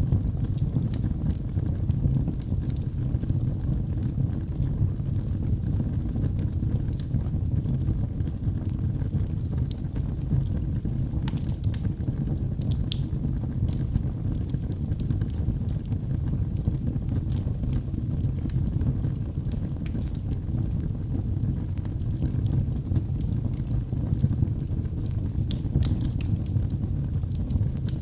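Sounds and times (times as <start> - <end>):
wood crackling and popping: 0.0 - 28.0
wood fire burning: 0.0 - 28.0.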